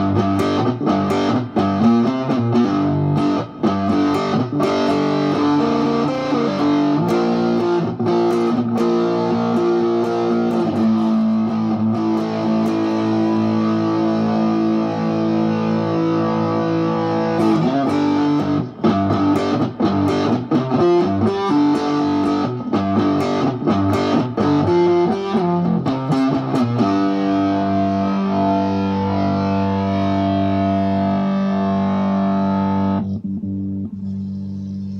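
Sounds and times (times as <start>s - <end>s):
electric guitar strummed and picked: 0.0s - 34.9s.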